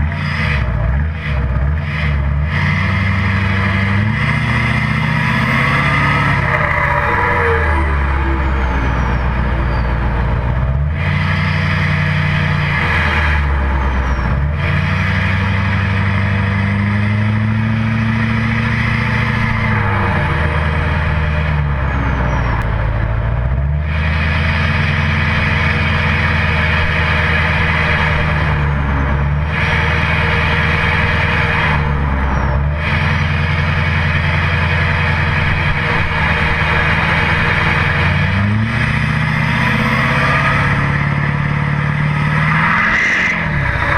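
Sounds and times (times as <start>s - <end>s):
diesel truck engine revving: 0.0s - 43.9s.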